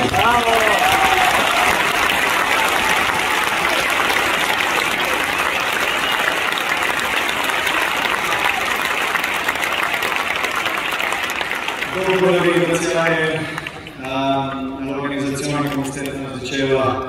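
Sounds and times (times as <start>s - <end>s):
large crowd applauding: 0.0s - 15.9s.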